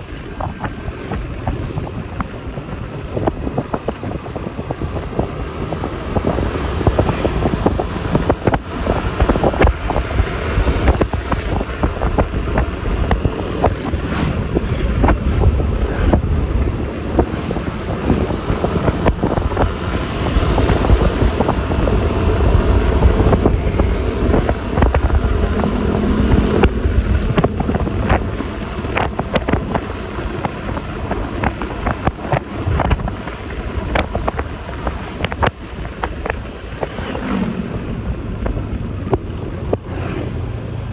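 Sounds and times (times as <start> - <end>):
scooter engine and traffic rumble: 0.0 - 40.9
wind buffeting microphone: 0.0 - 40.9.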